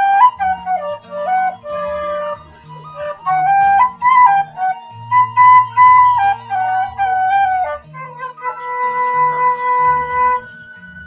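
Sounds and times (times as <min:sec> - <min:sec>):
bamboo flute melody: 0:00.0 - 0:11.0
low bass accompaniment: 0:00.0 - 0:11.0.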